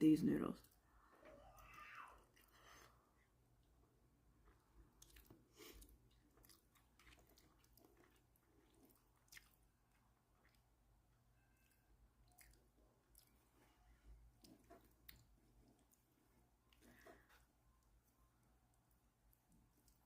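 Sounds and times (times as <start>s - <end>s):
faint chewing: 0.6s - 20.0s.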